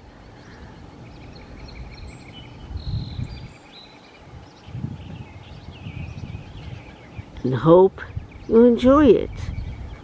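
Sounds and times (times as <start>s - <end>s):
small birds chirping: 0.0s - 10.0s
wind buffeting microphone: 0.0s - 10.0s.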